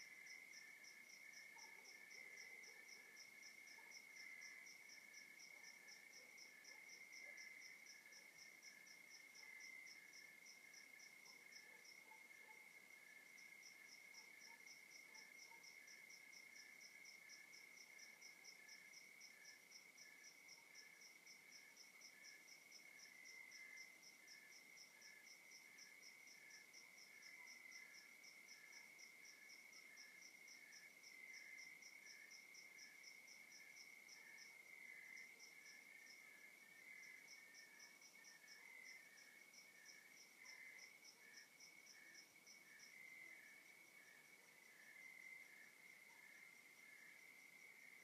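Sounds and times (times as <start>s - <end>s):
crickets chirping in pulses: 0.0s - 48.0s.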